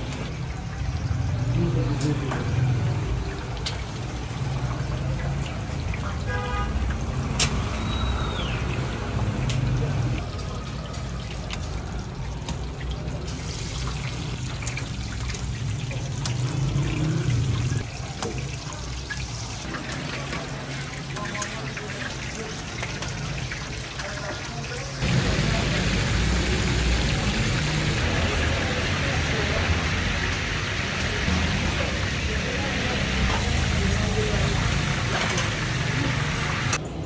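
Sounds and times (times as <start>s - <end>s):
patties sizzling in oil: 0.0s - 36.8s.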